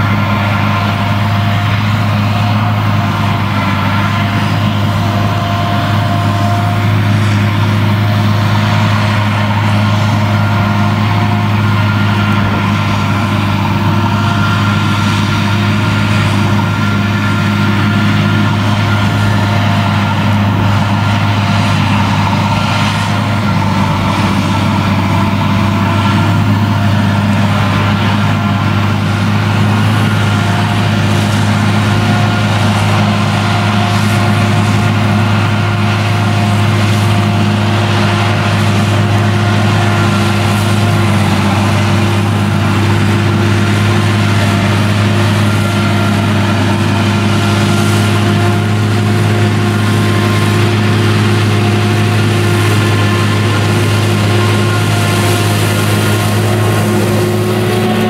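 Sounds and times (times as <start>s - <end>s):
forage harvester drone: 0.0s - 58.0s
steady whining tones: 0.0s - 58.0s
tractor engine: 0.0s - 58.0s.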